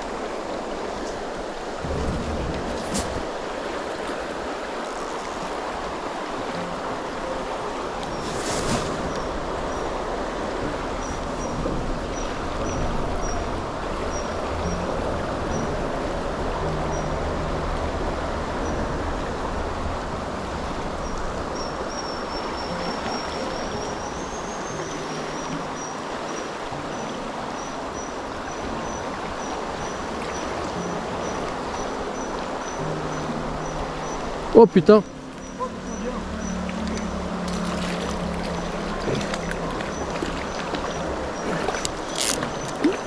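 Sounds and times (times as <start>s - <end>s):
river rushing: 0.0s - 43.0s.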